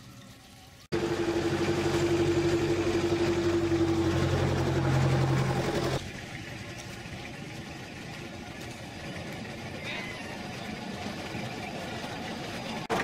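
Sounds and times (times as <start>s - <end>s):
boat engine idling: 0.9s - 13.0s.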